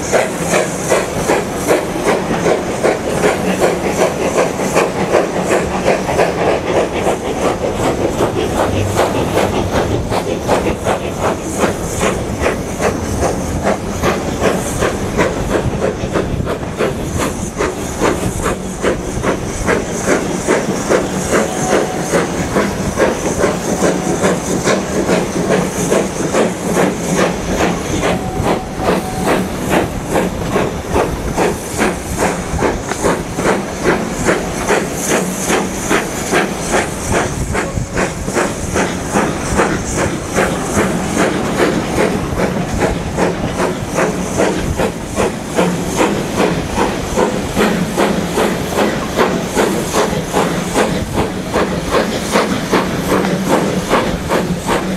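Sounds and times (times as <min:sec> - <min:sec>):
hiss of steam: 0:00.0 - 0:54.9
steam locomotive exhaust beats: 0:00.0 - 0:54.9.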